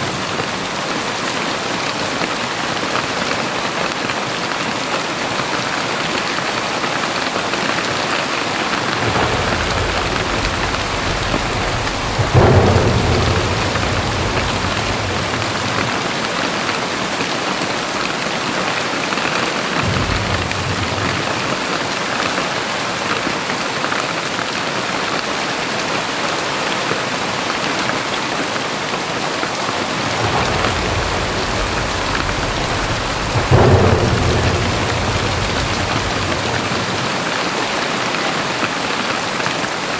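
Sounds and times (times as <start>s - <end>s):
heavy rain pouring: 0.0s - 39.9s
thunder rumbling and clapping: 5.4s - 23.9s, 25.1s - 38.9s.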